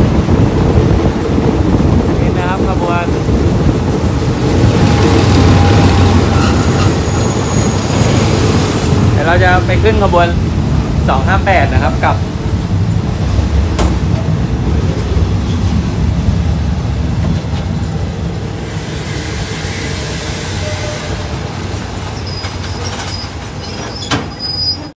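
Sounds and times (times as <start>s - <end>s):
train wheels rumbling: 0.0s - 24.9s.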